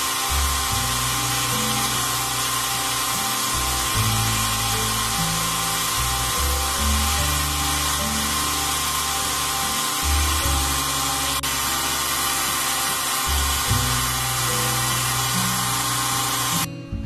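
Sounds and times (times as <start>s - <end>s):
belt grinder grinding metal: 0.0s - 16.7s
background music: 0.0s - 17.0s.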